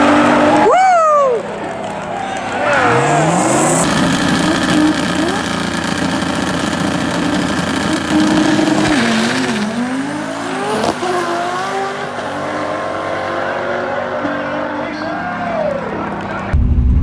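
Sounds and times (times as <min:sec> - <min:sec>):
race car engines running hard: 0:01.4 - 0:16.6.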